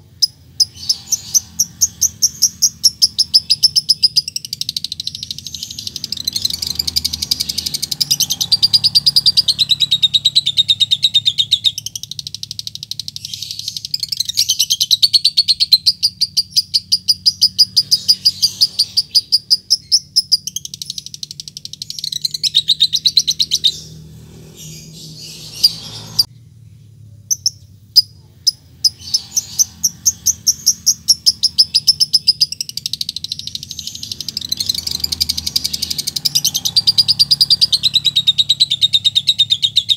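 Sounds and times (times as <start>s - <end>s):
lovebird chattering trill: 0.0s - 24.0s, 27.3s - 39.9s.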